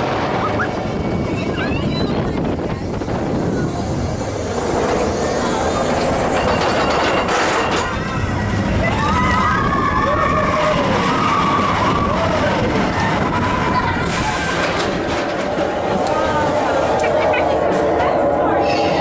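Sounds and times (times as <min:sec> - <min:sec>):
roller coaster rumbling on track: 0:00.0 - 0:19.0.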